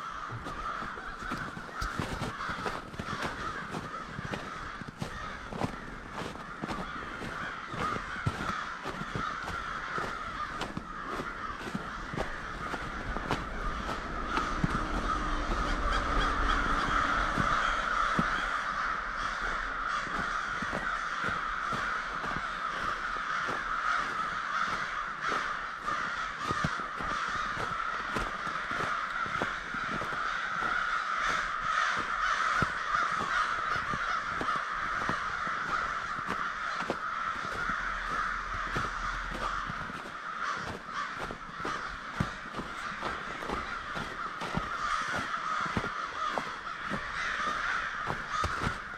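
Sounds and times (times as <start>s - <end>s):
crows cawing: 0.0s - 48.9s.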